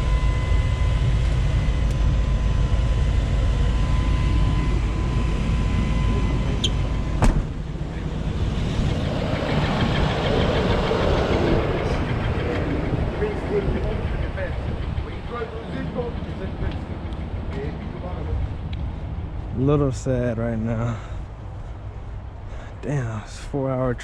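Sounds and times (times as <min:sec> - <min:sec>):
tow truck engine running: 0:00.0 - 0:22.7
thin steady whine: 0:00.0 - 0:24.0.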